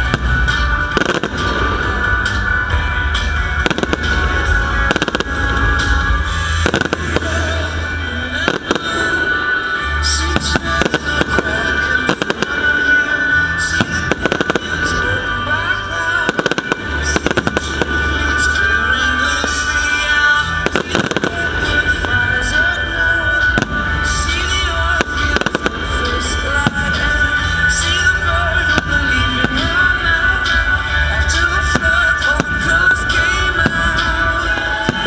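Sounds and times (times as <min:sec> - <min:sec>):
fireworks bursting: 0:00.0 - 0:35.0
music playing: 0:00.0 - 0:35.0.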